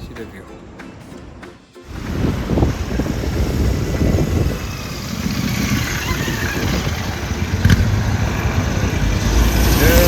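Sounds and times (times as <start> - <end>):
motorcycle engine rumbling: 1.9 - 10.0.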